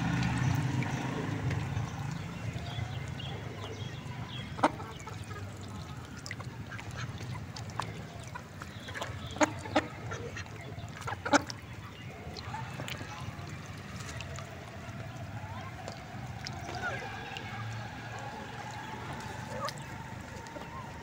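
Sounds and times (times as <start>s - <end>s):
ducks quacking: 0.9s - 21.0s.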